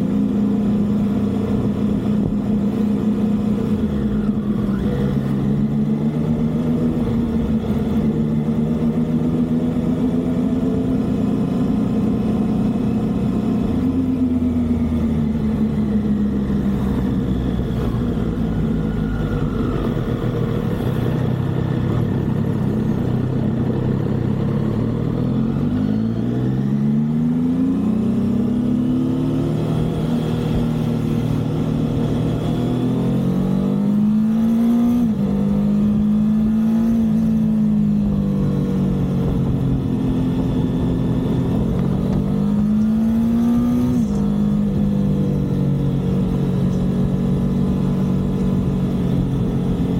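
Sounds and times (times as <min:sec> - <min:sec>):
motorcycle engine revving: 0:00.0 - 0:49.9
wind and road noise: 0:00.0 - 0:49.9.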